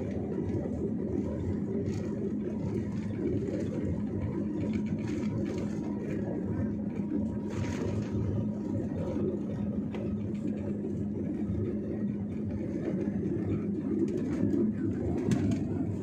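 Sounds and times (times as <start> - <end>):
jet engines low rumble: 0.0 - 16.0
wheels running on runway: 0.0 - 16.0.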